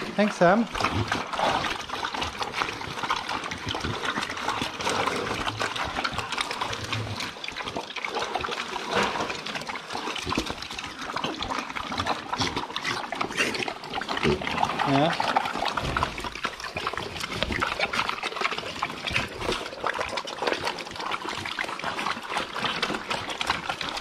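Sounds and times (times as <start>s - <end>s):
pigs eating and snuffling: 0.0s - 24.0s.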